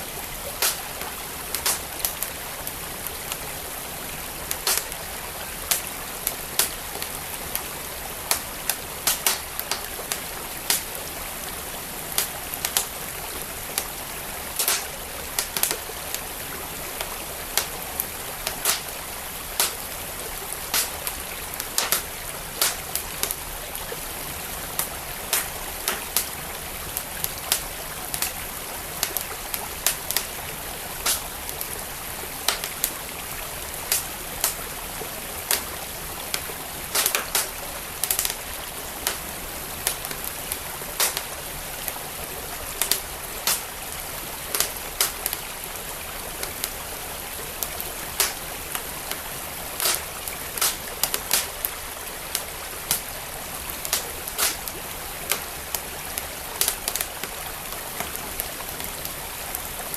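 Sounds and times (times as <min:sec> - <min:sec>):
fireplace fire crackling: 0:00.0 - 0:59.9
stream water flowing: 0:00.0 - 0:59.9.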